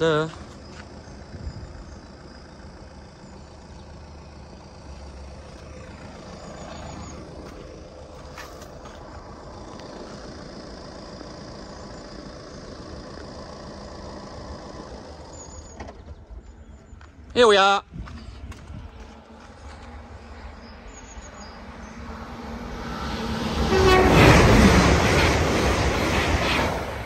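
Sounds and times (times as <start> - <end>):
car engine idling: 0.0 - 23.8
outdoor ambience: 0.0 - 27.0.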